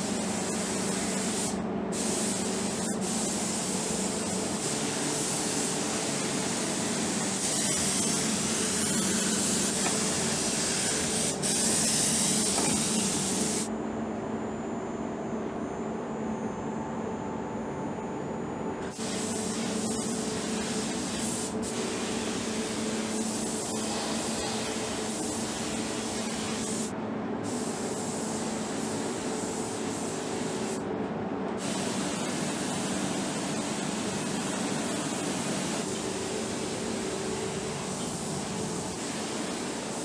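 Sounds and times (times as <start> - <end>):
paint spray gun hissing: 0.0 - 13.7, 18.9 - 30.8, 31.6 - 40.0
steady low hum: 0.0 - 40.0.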